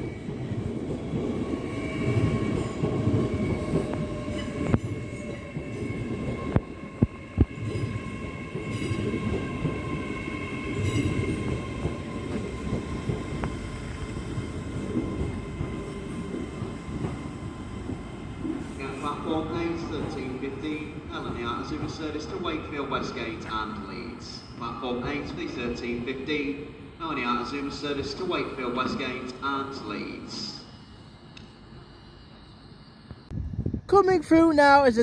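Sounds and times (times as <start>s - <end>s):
train rumbling: 0.0s - 35.0s.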